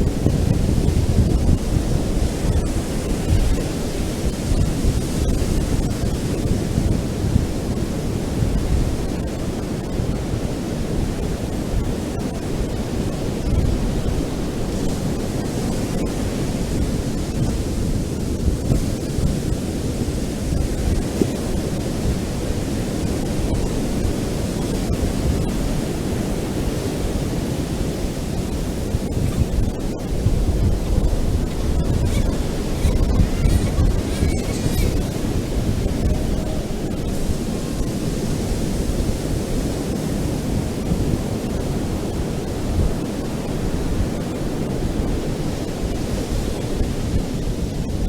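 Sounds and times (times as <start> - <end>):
ocean surf breaking: 0.0 - 48.0.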